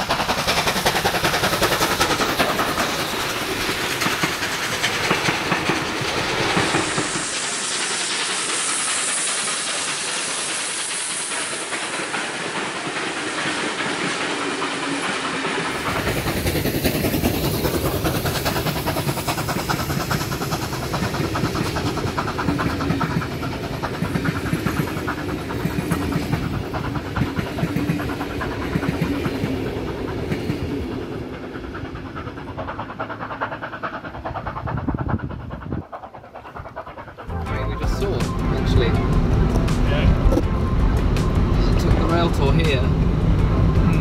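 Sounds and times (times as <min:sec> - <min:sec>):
train wheels clattering on rails: 0:00.0 - 0:44.0.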